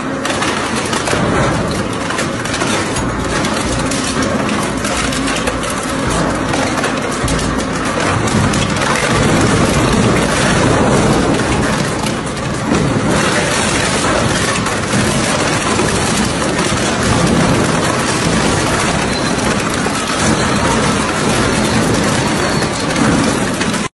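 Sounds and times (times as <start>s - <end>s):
shredder grinding metal and plastic: 0.0s - 23.9s.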